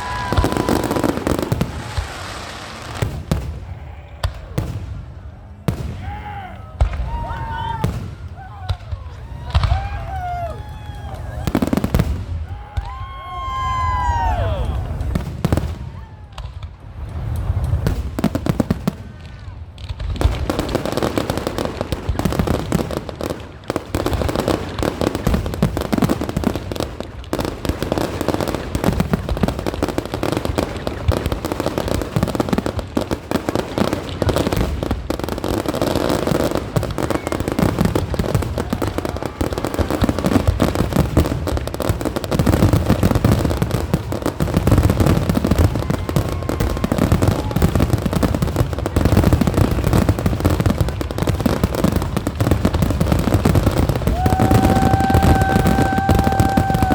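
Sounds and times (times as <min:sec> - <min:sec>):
fireworks bursting: 0:00.0 - 0:56.9
fireworks crackling: 0:00.0 - 0:56.9.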